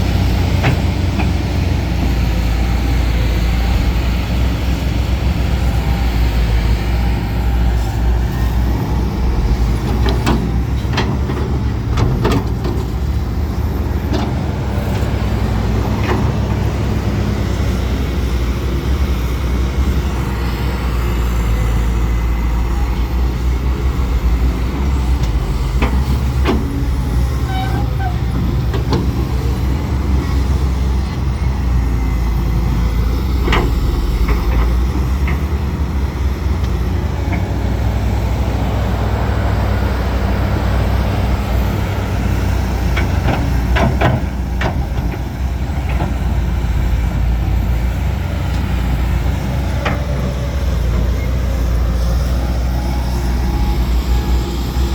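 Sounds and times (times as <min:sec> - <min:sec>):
diesel machinery engine drone: 0:00.0 - 0:54.9.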